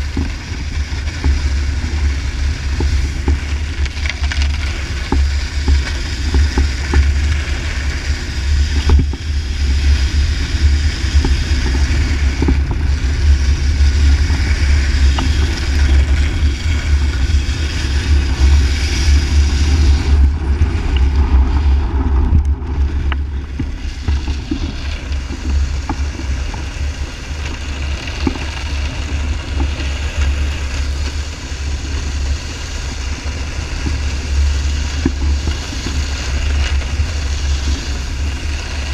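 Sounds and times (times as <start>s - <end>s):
snowboard scraping over ice: 0.0s - 38.9s
wind buffeting microphone: 0.0s - 38.9s.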